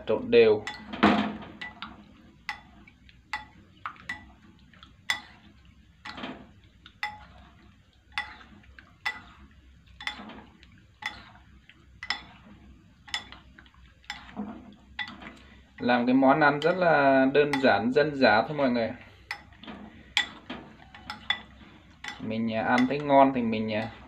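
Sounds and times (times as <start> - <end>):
utensils clinking against bowl: 0.6 - 11.4, 12.0 - 18.6, 19.2 - 24.0.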